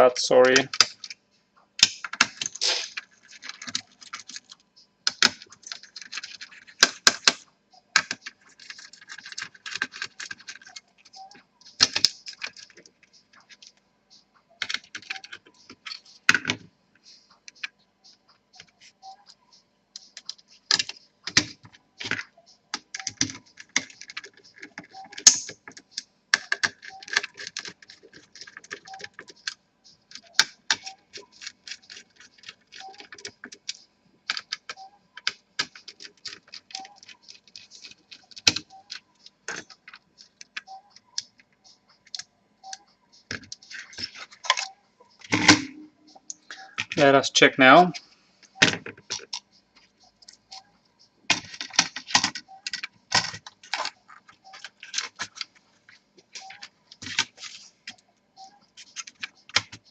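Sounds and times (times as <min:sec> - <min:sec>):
laptop parts clicking and knocking: 0:00.4 - 0:01.2, 0:01.8 - 0:13.8, 0:14.6 - 0:16.7, 0:20.0 - 0:47.0, 0:48.5 - 0:59.9.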